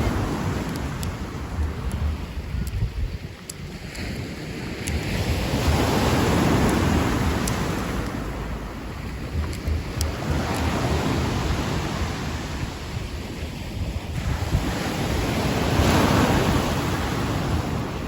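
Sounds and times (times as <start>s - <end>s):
sea waves washing onto shore: 0.0s - 18.0s.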